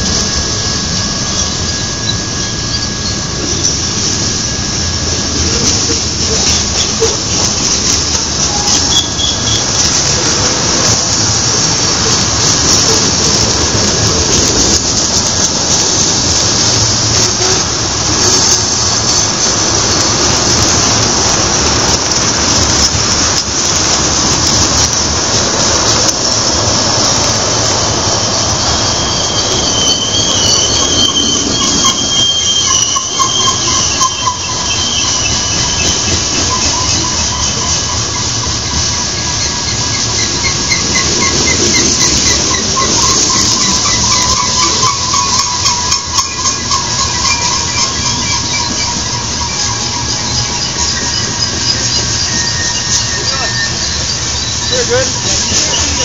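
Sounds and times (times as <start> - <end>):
train wheels rumbling on rail: 0.0 - 56.0
wheels squealing against rails: 0.0 - 56.0.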